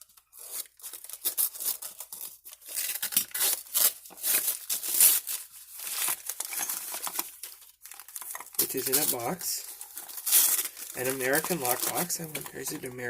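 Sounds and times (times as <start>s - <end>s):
packing wrap tearing and crinkling: 0.0s - 13.0s.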